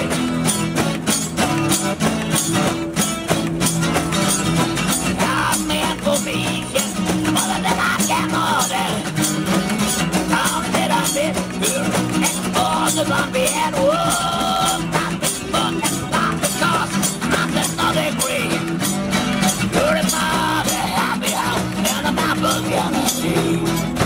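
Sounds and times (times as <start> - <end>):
guitar playing a tune: 0.0 - 24.0
jingling rattling percussion beat: 0.0 - 24.0.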